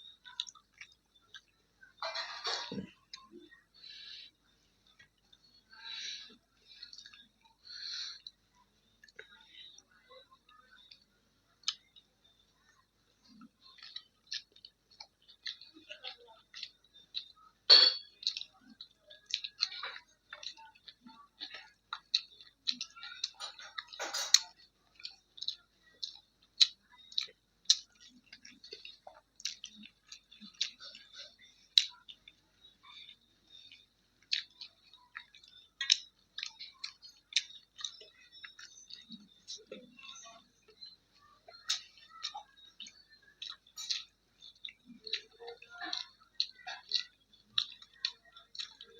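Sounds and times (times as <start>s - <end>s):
person chewing and smacking: 0.0s - 2.0s, 2.6s - 48.9s.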